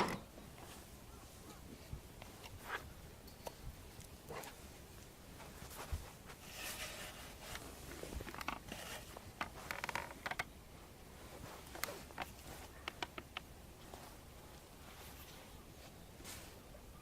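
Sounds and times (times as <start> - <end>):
rustling: 0.0 - 17.0.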